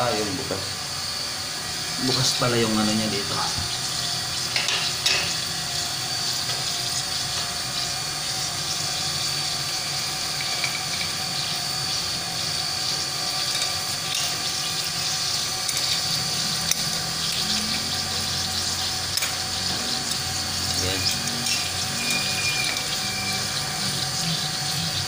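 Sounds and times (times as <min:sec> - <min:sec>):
faint pump whine: 0:00.0 - 0:25.0
water hissing through pipes: 0:00.0 - 0:25.0.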